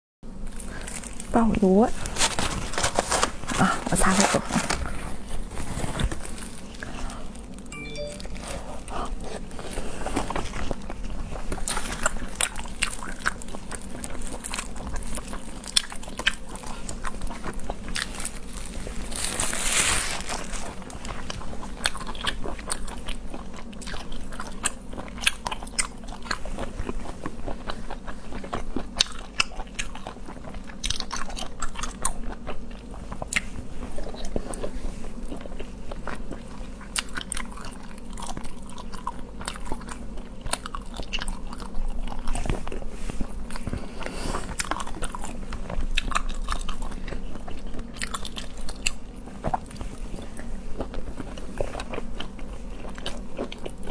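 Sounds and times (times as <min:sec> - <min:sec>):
chewing and crunching seafood: 0:00.3 - 0:07.8, 0:08.8 - 0:53.9.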